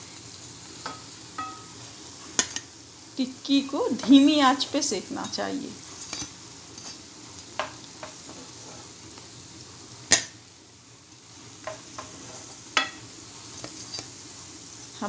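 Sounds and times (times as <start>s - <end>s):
patties sizzling in hot oil: 0.0s - 15.0s.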